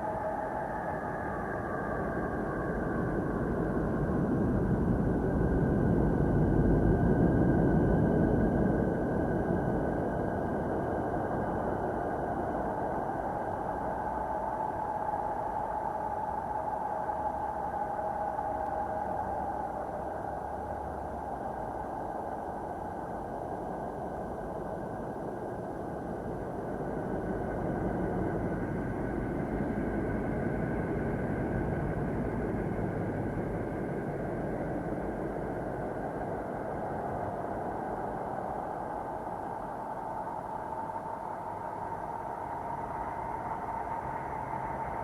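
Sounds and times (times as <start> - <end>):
deep rumbling drone with hiss: 0.0 - 45.0.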